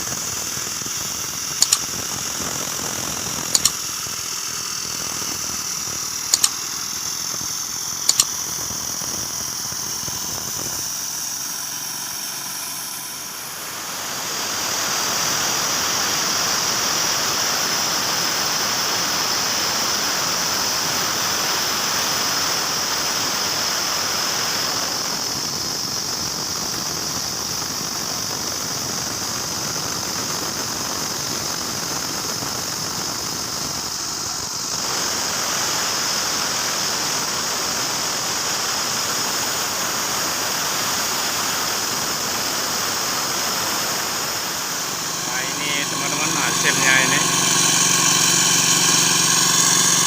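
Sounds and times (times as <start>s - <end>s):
heavy machinery hissing: 0.0s - 50.0s
high machine whine: 0.0s - 50.0s.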